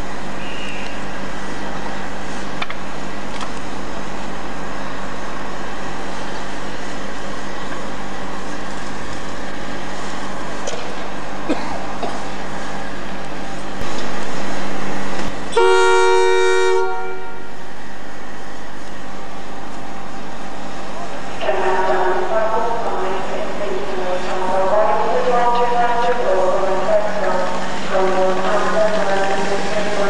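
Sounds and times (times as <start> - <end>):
train hum and rumble: 0.0 - 30.0.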